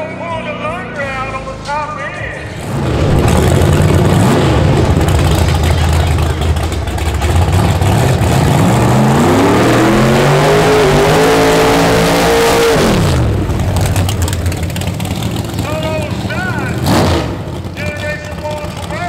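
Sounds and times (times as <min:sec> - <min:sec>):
car engine revving: 0:00.0 - 0:19.0
tyres spinning in burnout: 0:02.4 - 0:19.0.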